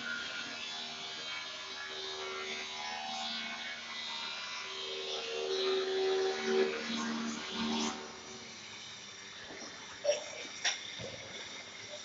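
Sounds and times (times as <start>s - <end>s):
metal lathe buzzing hum: 0.0s - 12.0s.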